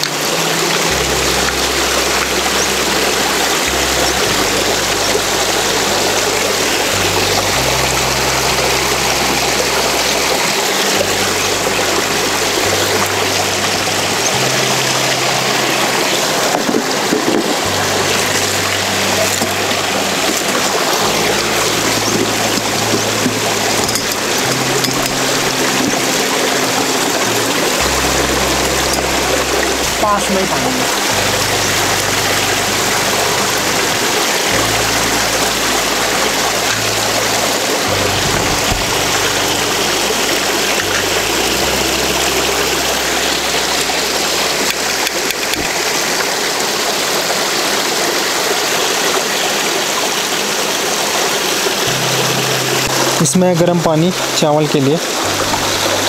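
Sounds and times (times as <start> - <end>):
low background music: 0.0 - 56.0
stream running over stones: 0.0 - 56.0.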